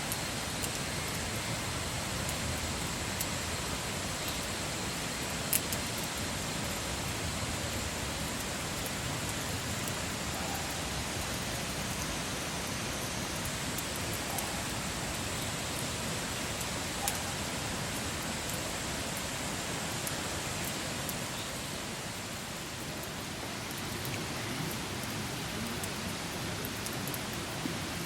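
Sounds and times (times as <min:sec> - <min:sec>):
campfire hiss: 0:00.0 - 0:28.0.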